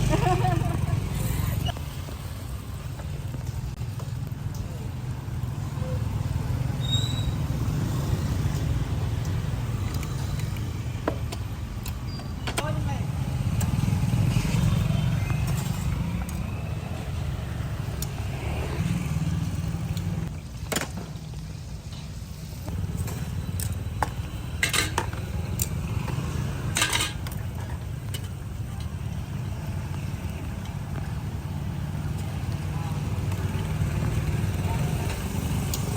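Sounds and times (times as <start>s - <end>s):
street traffic rumble: 0.0s - 35.9s.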